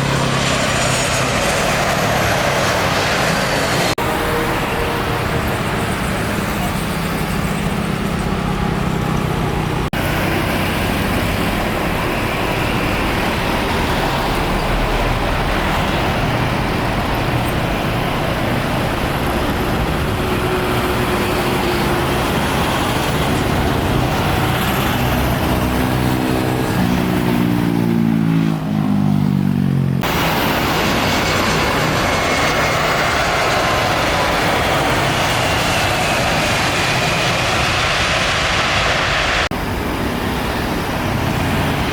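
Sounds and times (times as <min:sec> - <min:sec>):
engine passing close: 0:00.0 - 0:41.9
roar of engines and traffic: 0:00.0 - 0:41.9.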